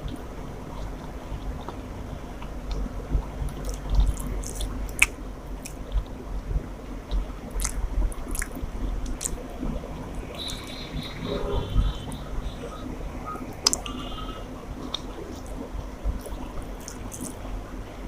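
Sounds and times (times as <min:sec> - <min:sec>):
chewing and wet mouth sounds: 0:00.7 - 0:17.9.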